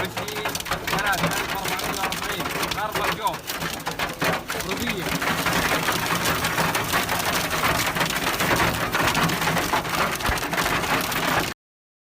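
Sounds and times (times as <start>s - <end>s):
hail and heavy rain pelting: 0.0s - 11.6s.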